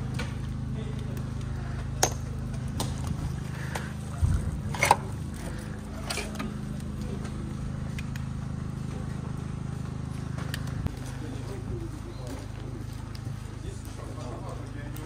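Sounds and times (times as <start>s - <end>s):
engine running drone: 0.0s - 15.0s.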